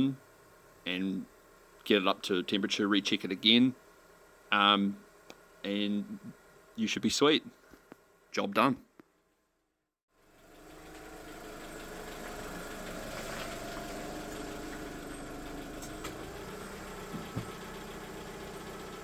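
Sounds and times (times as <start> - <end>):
car engine idling: 0.0 - 8.3, 10.2 - 19.0.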